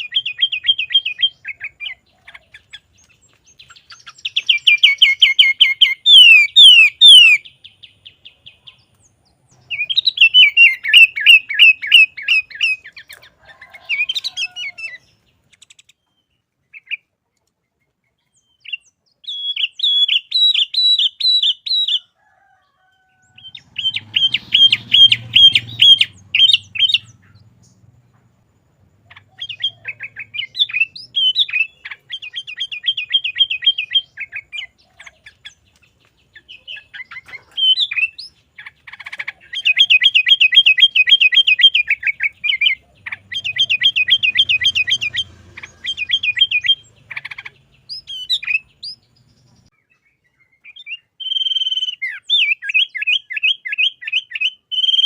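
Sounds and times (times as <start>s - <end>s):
bird chirping rapidly: 0.0s - 17.2s, 18.1s - 22.1s, 23.2s - 55.0s.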